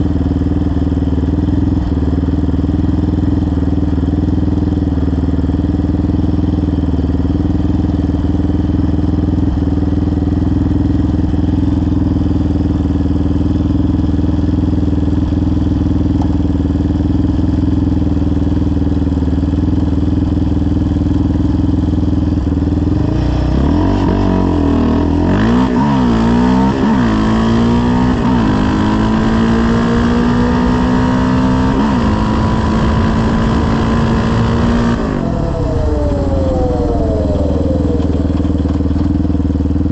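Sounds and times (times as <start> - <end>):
quad engine idling and revving: 0.0 - 39.9.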